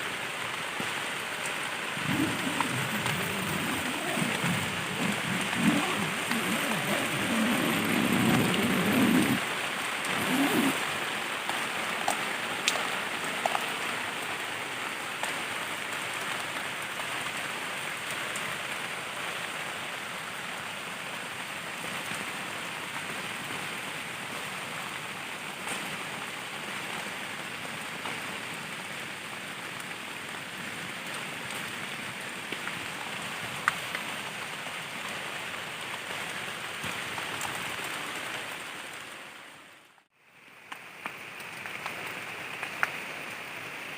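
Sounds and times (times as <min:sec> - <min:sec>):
heavy rain on tent fabric: 0:00.0 - 0:43.9.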